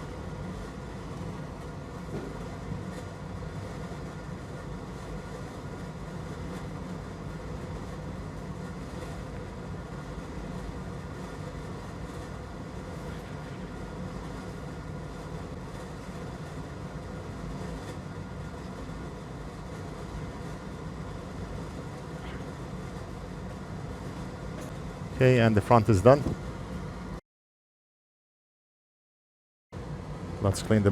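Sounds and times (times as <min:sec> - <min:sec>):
fan humming: 0:00.0 - 0:27.2, 0:29.8 - 0:30.9.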